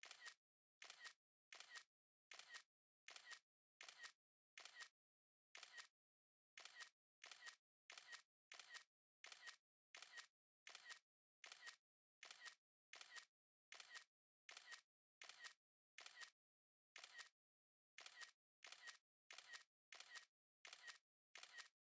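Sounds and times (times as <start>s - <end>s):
camera shutter clicks: 0.0s - 4.9s, 5.6s - 5.9s, 6.6s - 16.3s, 17.0s - 17.3s, 18.0s - 21.7s.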